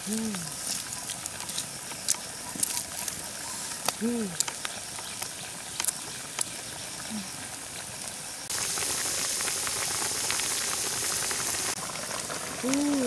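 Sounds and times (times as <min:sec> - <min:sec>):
fire crackling: 0:00.0 - 0:13.0
soup bubbling and sizzling: 0:00.0 - 0:13.0.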